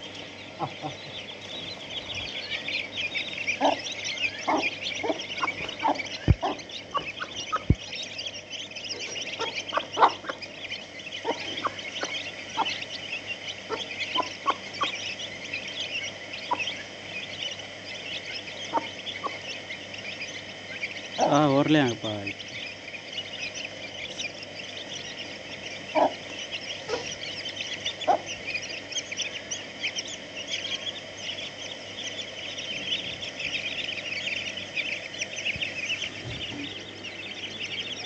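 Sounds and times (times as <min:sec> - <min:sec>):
chicks peeping: 0:00.0 - 0:38.0
hen clucking: 0:00.0 - 0:38.0.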